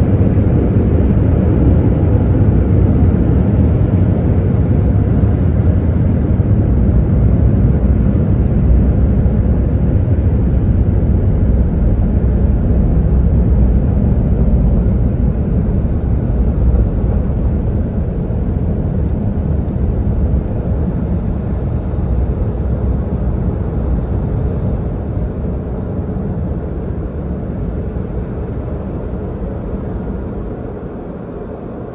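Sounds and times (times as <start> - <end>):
car wash air dryers blowing: 6.0 - 31.9.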